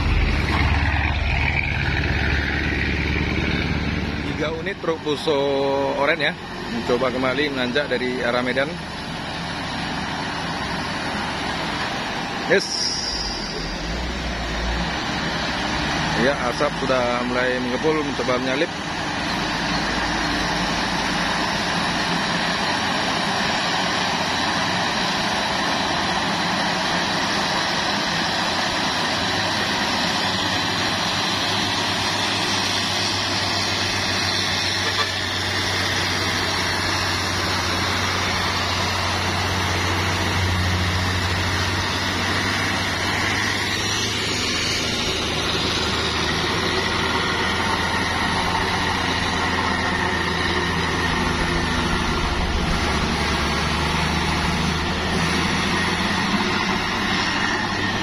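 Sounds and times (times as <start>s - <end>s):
road noise: 0.0s - 58.0s
truck diesel engines climbing: 0.0s - 58.0s.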